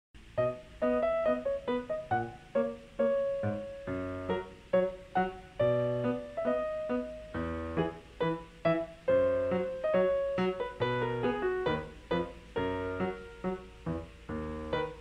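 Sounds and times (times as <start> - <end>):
keyboard melody: 0.4 - 15.0.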